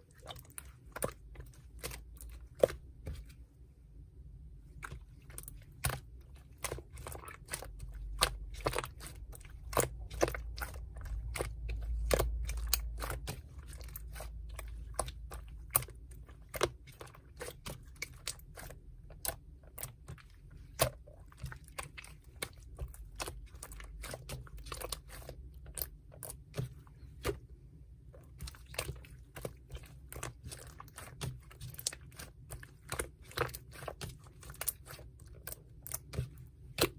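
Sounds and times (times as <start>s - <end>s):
slime clicking and crackling: 4.8s - 27.4s, 28.2s - 36.9s.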